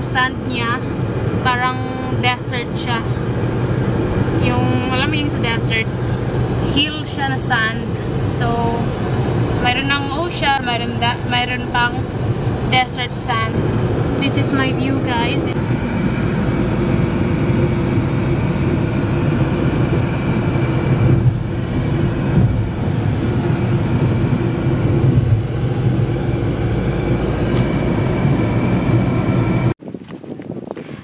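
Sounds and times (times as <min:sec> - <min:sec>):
car road and engine noise: 0:00.0 - 0:31.0.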